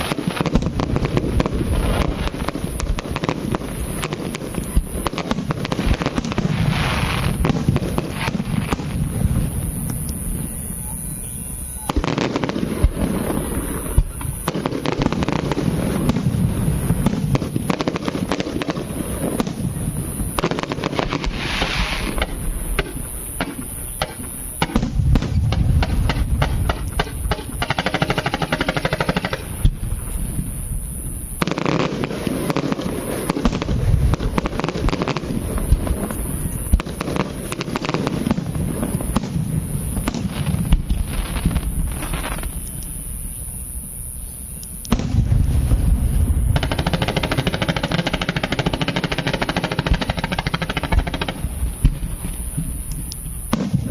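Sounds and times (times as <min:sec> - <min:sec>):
fireworks crackling and popping: 0:00.0 - 0:53.9
low firework blasts: 0:00.0 - 0:53.9.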